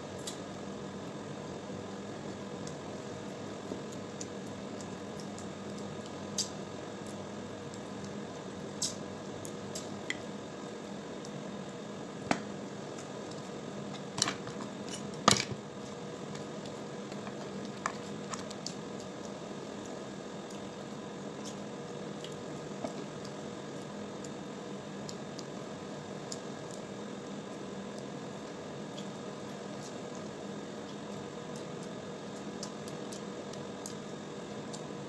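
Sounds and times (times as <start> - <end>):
electrical hum: 0.0 - 35.0.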